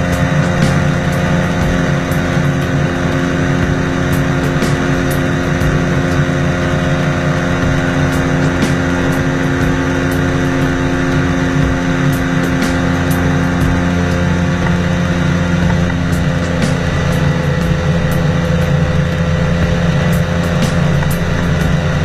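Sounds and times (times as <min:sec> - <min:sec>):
helicopter engine humming: 0:00.0 - 0:22.0.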